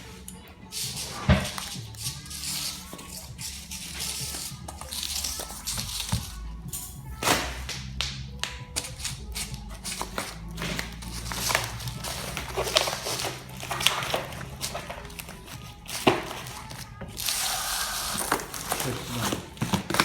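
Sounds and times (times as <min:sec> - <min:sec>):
music with low bass: 0:00.0 - 0:20.0.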